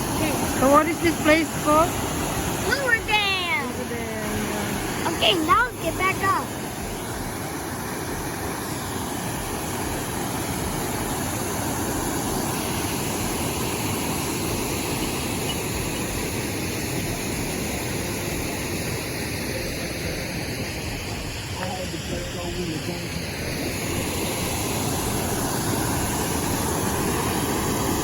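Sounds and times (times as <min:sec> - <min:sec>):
water rushing off a dam: 0:00.0 - 0:28.0.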